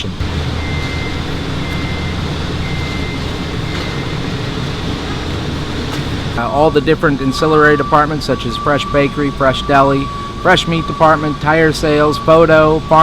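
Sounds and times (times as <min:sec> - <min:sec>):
backup alarm beeping: 0:00.0 - 0:13.0
low motor hum: 0:00.1 - 0:13.0.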